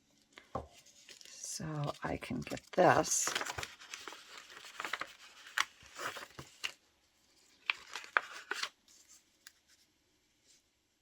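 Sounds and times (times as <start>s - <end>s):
paper rustling: 0.4s - 9.9s.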